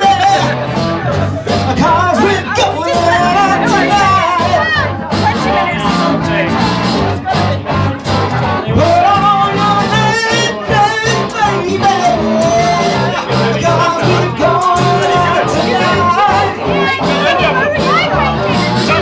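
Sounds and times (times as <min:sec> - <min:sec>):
bass guitar beat: 0:00.0 - 0:19.0
electric guitar: 0:00.0 - 0:19.0
man singing into a microphone: 0:00.0 - 0:19.0.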